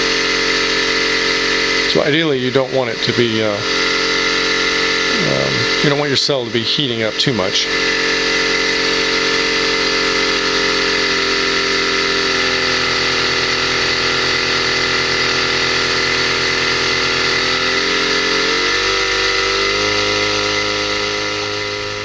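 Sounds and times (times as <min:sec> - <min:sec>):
high electronic whine: 0:00.0 - 0:22.0.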